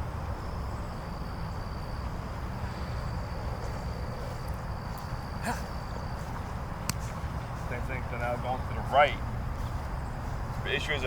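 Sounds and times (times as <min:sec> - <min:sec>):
insects droning: 0:00.0 - 0:11.0
low outdoor rumble: 0:00.0 - 0:11.0.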